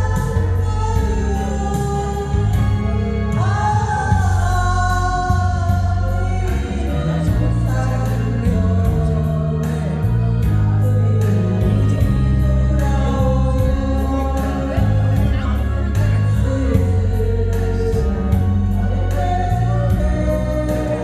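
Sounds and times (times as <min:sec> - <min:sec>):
backing track bass line: 0:00.0 - 0:21.0
person singing a slow ballad: 0:00.0 - 0:21.0.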